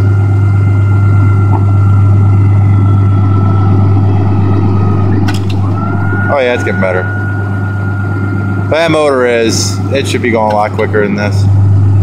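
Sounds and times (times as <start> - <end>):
diesel engine idling: 0.0 - 12.0
hydraulic pump motor whining: 0.3 - 11.3.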